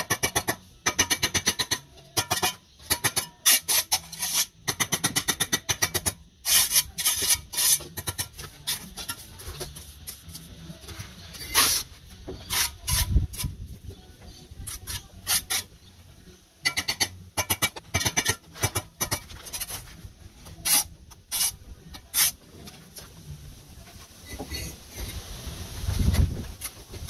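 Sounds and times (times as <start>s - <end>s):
trowel scraping and tapping bricks: 0.0s - 15.9s, 16.6s - 23.2s.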